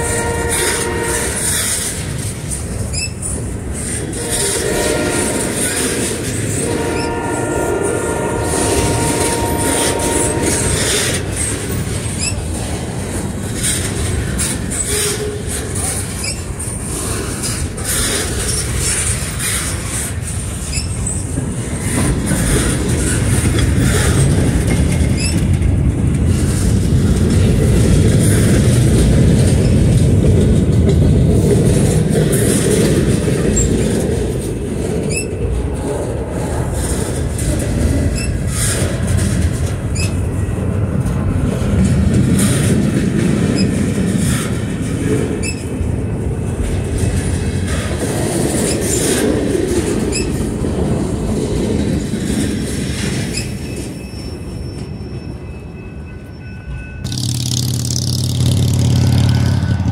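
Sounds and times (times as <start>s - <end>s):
wheels clicking over rail joints: 0.0s - 55.0s, 57.0s - 59.9s
train wheels rumbling on rail: 0.0s - 59.9s.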